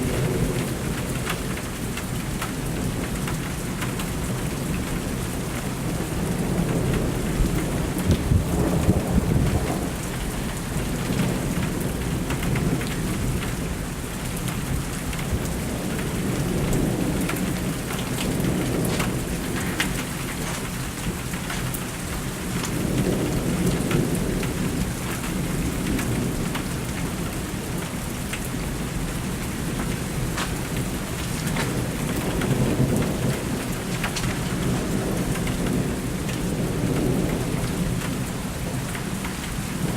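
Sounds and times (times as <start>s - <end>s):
raindrops ticking on surface: 0.0s - 39.9s
steady rain falling: 0.0s - 39.9s
thunder rumbling: 5.9s - 13.9s, 14.6s - 38.9s.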